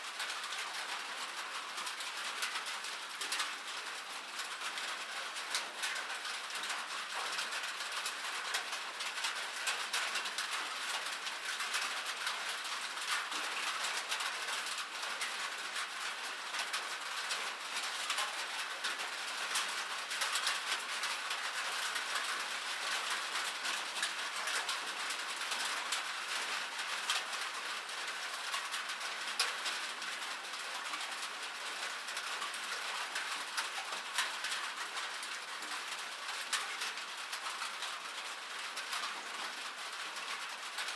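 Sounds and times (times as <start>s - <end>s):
light rain falling: 0.0s - 40.9s.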